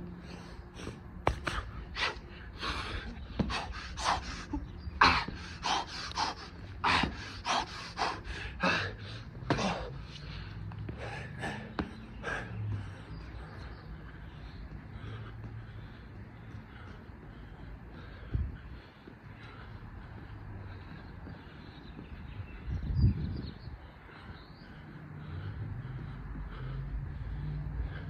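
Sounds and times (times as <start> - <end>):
man panting hard: 0.0 - 28.0.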